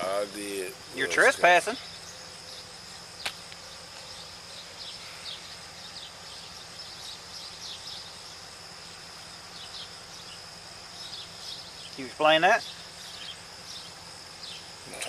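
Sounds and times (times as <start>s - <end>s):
bird chirps: 0.0s - 15.0s
insects droning: 0.0s - 15.0s.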